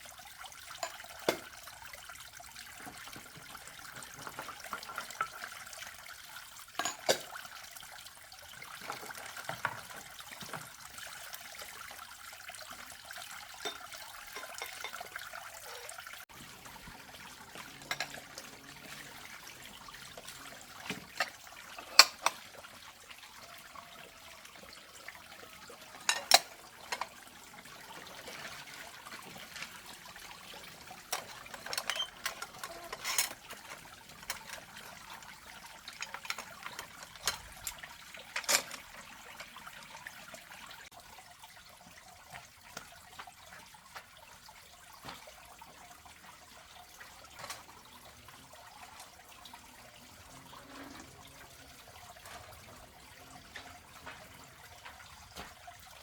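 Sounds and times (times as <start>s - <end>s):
water running and trickling: 0.0s - 56.0s.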